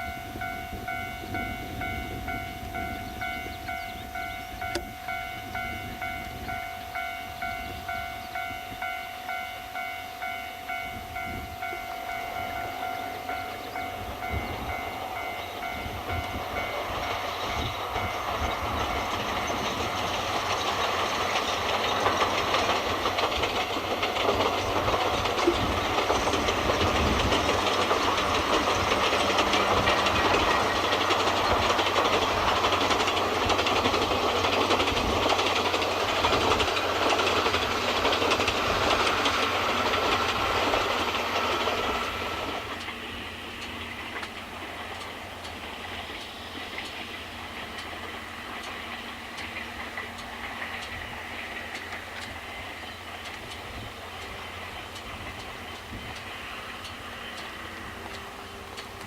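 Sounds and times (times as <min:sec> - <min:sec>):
train wheels clattering: 0:00.0 - 0:59.0.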